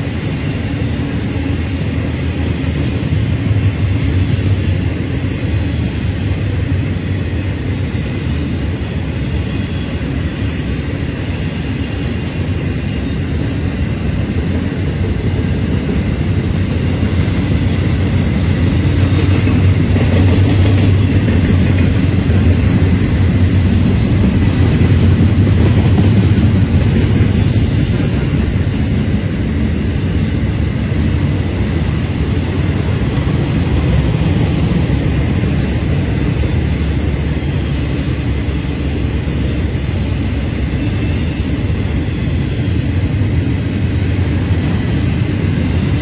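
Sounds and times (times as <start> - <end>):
freight train wheels rumbling on rail: 0.0 - 46.0.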